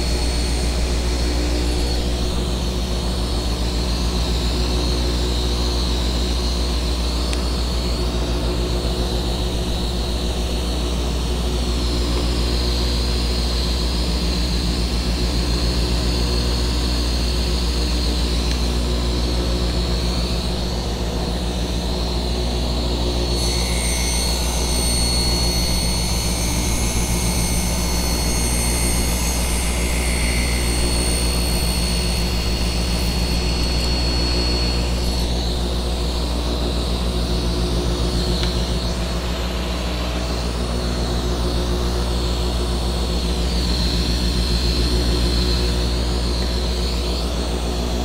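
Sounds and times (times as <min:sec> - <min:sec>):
faint high whine: 0:00.0 - 0:48.0
machinery motor humming: 0:00.0 - 0:48.0.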